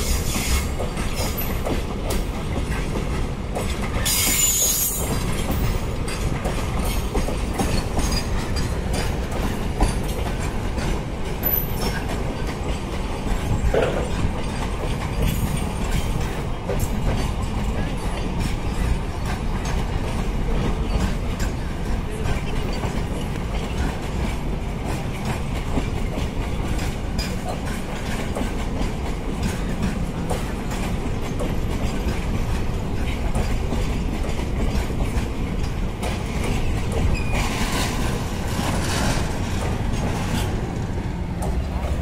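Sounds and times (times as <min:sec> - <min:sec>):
freight train wheels rumbling: 0:00.0 - 0:42.0
wheels clattering over rail joints: 0:00.0 - 0:42.0.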